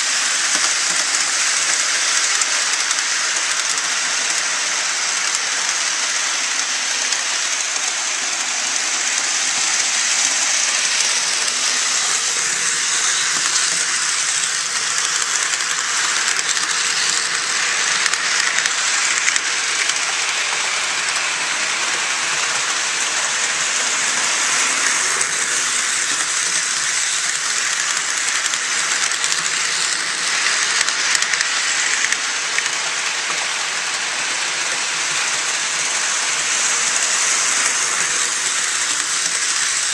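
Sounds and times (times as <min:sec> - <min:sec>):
model train rolling hiss: 0:00.0 - 0:39.9.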